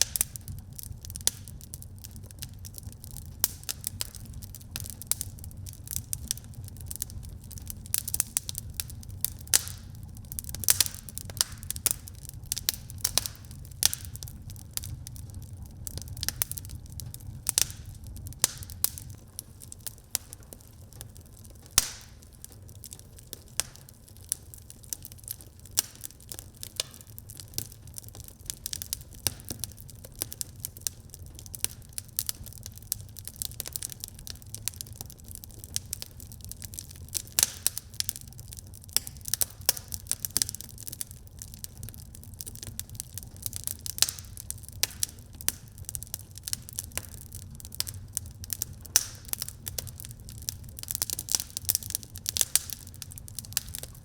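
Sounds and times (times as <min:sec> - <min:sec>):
fire crackling and popping: 0:00.0 - 0:54.0
low fire rumble: 0:00.0 - 0:54.0.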